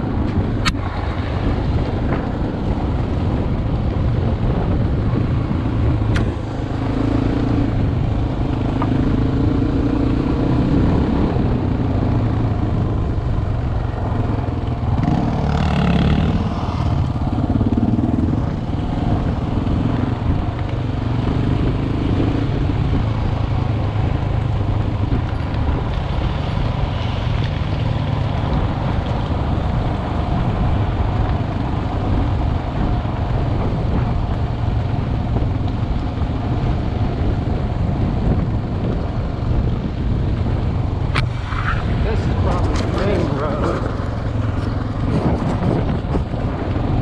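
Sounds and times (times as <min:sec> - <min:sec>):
motorcycle engine running: 0:01.4 - 0:47.0.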